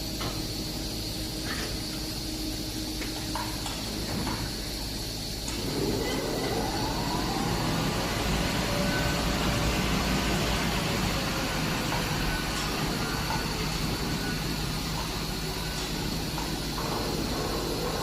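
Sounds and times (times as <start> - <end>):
machine drive whine: 0.0 - 18.0
mechanical running noise: 0.0 - 18.0.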